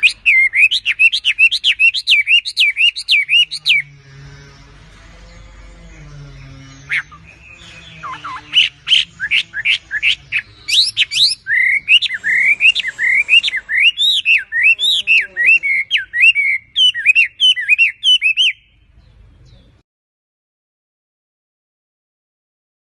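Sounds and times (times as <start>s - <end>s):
bird singing whistled notes: 0.0s - 4.8s, 5.4s - 19.7s.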